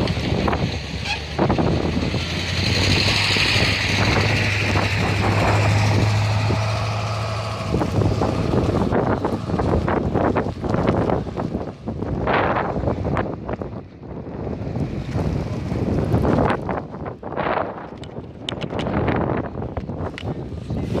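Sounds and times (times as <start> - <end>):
engine humming: 0.0 - 21.0
wind buffeting microphone: 0.0 - 21.0.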